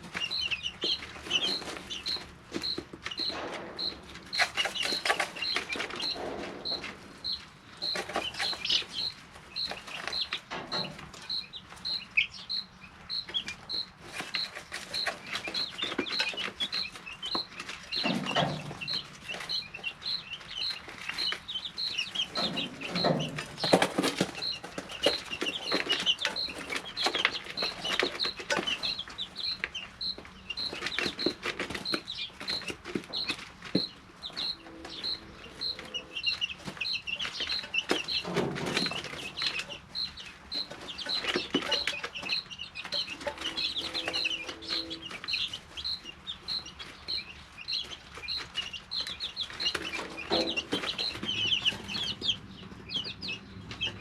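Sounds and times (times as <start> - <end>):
chicks pecking and scratching: 0.0 - 54.0
chicks peeping and chirping: 0.0 - 54.0.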